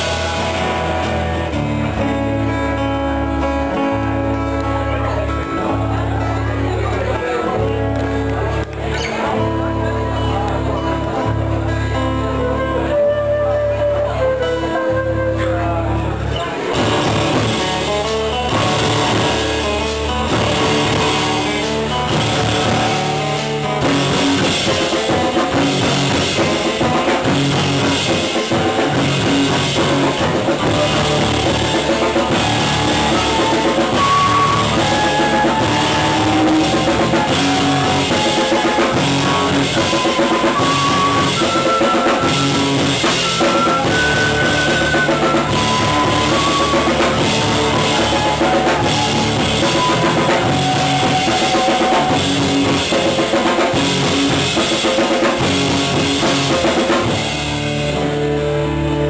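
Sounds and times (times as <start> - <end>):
acoustic guitar: 0.0 - 59.0
drum kit: 0.0 - 59.0
electric bass: 0.0 - 59.0
flute melody: 9.1 - 57.5.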